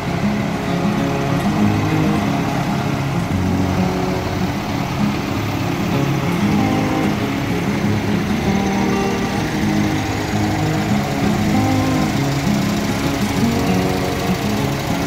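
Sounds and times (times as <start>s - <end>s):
diesel tractor engines running: 0.0s - 15.0s.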